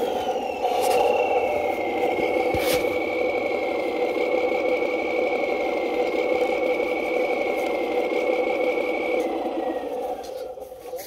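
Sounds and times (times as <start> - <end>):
motor and gear whine: 0.0 - 11.0.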